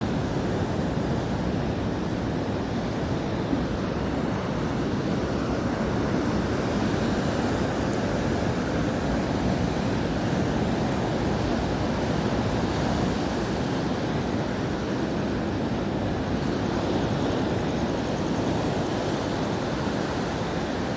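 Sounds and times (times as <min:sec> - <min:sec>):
ocean surf on sandy beach: 0:00.0 - 0:20.9.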